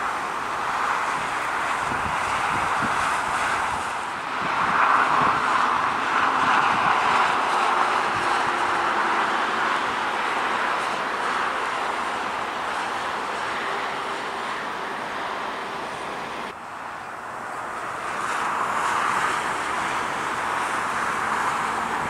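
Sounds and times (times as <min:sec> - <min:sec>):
jet engines rushing: 0:00.0 - 0:22.0.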